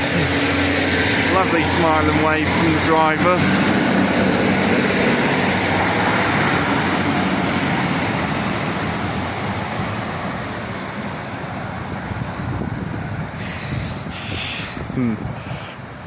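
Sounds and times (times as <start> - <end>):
diesel train pulling away: 0.0 - 16.0.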